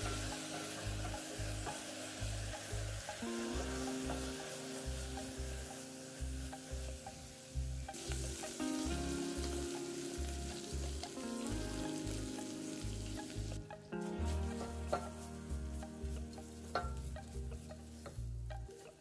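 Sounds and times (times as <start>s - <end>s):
background music: 0.0s - 19.0s
fish sizzling in oil: 0.0s - 19.0s.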